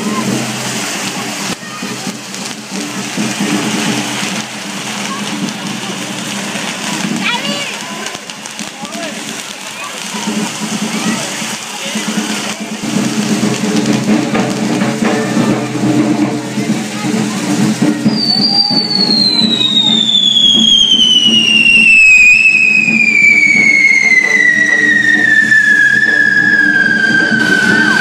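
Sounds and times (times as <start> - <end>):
fireworks spraying sparks: 0.0 - 28.0
whistling firework: 0.0 - 28.0.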